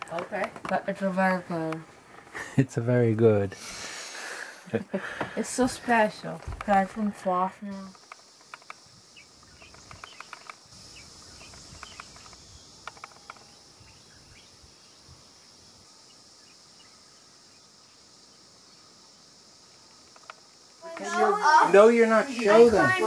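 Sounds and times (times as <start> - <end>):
high-pitched insect drone: 3.6 - 23.0.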